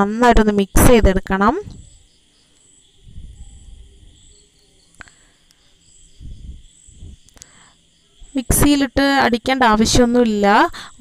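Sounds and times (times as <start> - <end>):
faint high pulsing chirp: 0.0 - 11.0.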